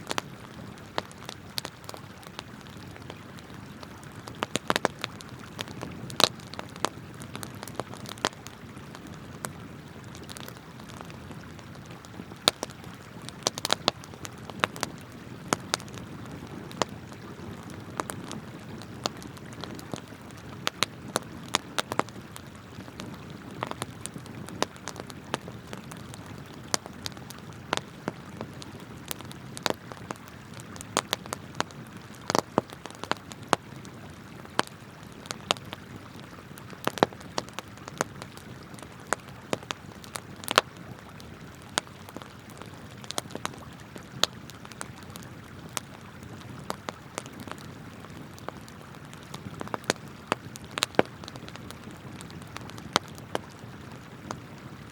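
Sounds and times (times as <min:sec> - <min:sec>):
campfire crackling and popping: 0:00.0 - 0:54.9
flowing river water: 0:00.0 - 0:54.9.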